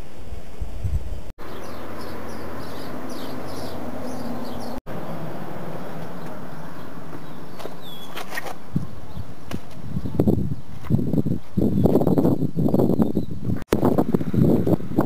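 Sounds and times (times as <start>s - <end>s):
steady rush of wind: 0.0s - 15.0s
small birds chirping: 1.4s - 13.6s.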